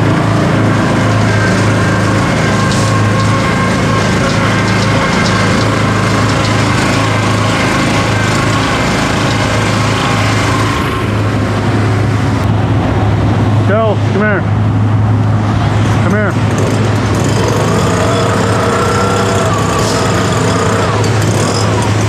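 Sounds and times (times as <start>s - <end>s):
small gasoline engine running: 0.0s - 12.4s, 15.3s - 22.0s.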